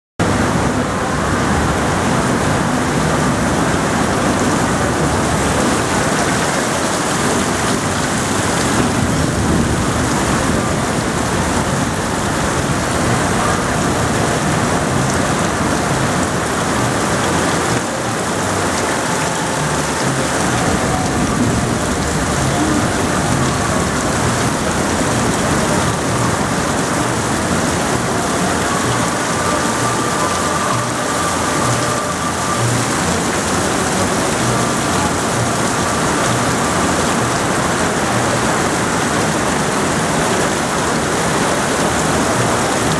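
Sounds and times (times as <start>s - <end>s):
heavy rain pouring: 0.2s - 42.9s.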